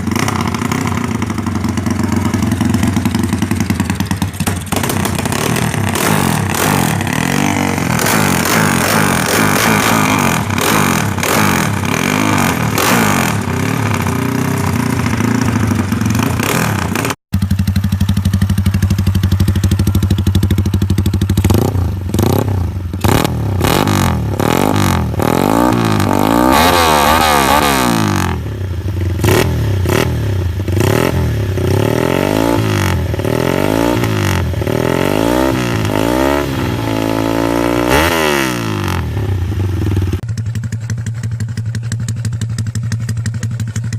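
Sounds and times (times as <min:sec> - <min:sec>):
motorcycle engines revving: 0:00.0 - 0:43.9.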